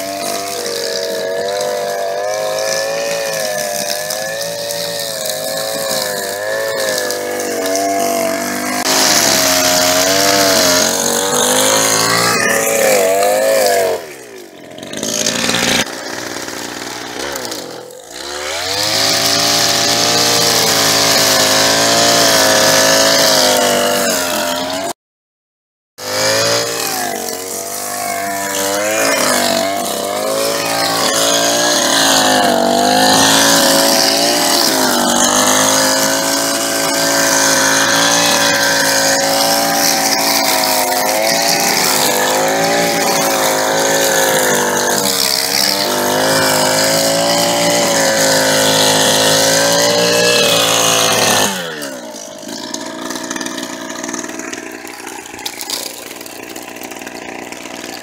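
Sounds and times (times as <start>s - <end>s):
string trimmer engine running: 0.0s - 25.0s, 26.0s - 58.0s.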